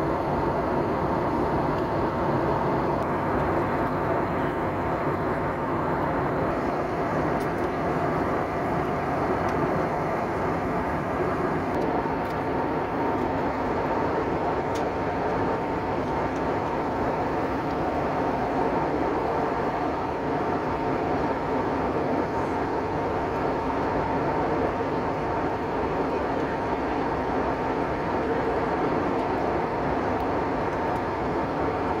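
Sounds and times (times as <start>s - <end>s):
airliner cabin engine roar: 0.0s - 32.0s.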